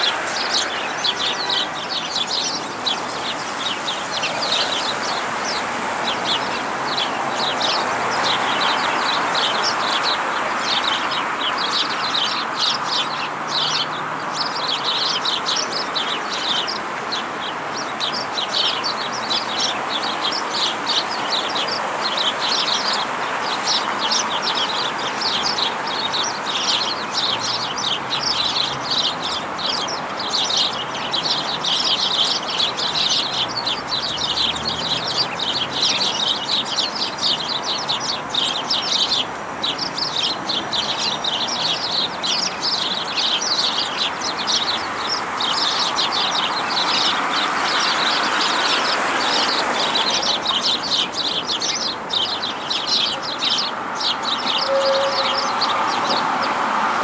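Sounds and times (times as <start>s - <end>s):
flock of sparrows chirping: 0.0s - 57.0s.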